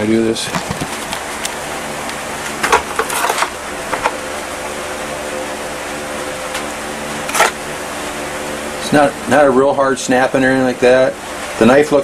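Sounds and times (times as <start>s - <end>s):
desk fan humming: 0.0s - 12.0s.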